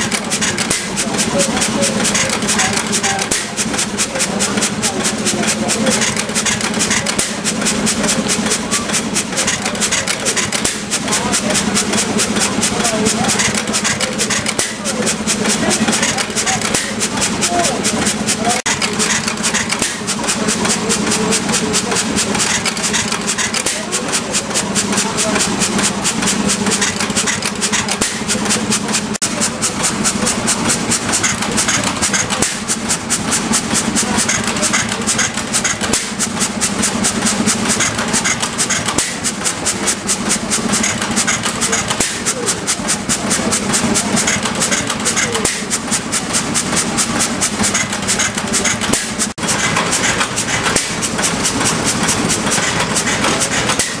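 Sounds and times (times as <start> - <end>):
engine valve gear clicking: 0.0 - 54.0.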